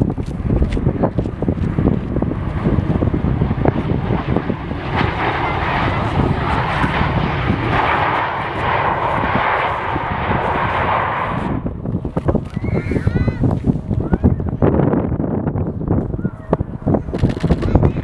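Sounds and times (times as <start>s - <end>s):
jet engines running: 0.0s - 18.0s
wind buffeting microphone: 0.0s - 18.0s.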